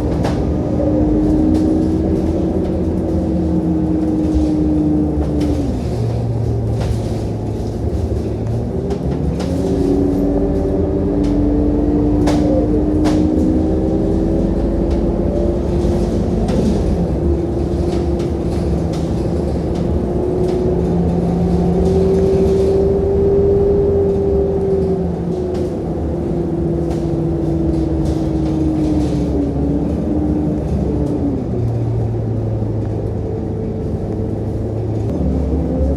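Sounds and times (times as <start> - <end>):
bus diesel engine running: 0.0 - 35.9.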